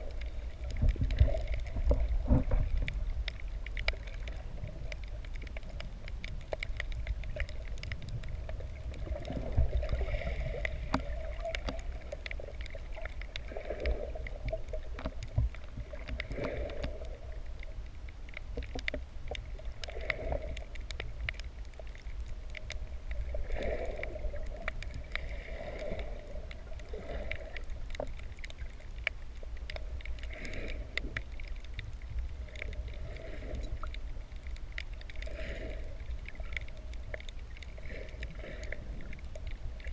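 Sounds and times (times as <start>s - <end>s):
low rumble of moving water: 0.0s - 39.9s.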